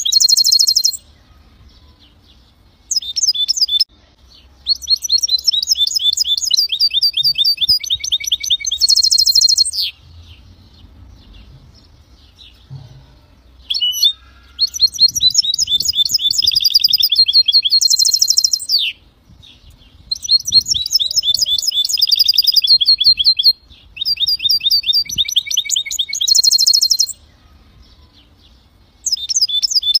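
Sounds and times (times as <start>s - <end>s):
songbird singing trills: 0.0s - 30.0s.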